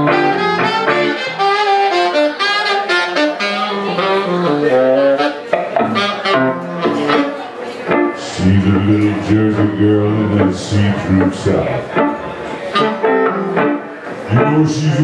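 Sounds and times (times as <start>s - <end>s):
electric guitar accompaniment: 0.0s - 15.0s
saxophone jazz melody: 0.0s - 15.0s.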